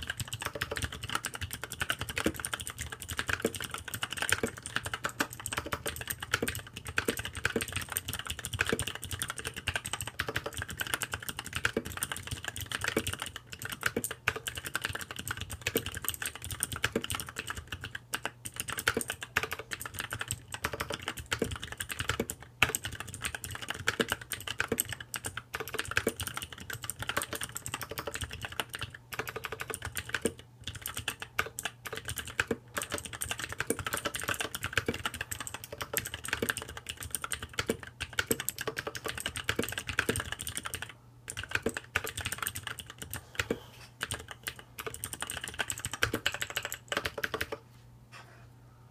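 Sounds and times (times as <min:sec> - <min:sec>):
mechanical keyboard typing clicks: 0:00.0 - 0:47.6.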